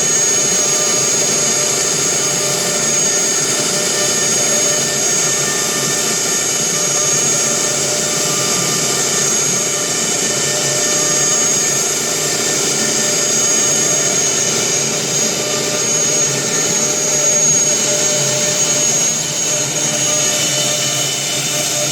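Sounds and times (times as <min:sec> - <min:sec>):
cnc router running: 0:00.0 - 0:21.9.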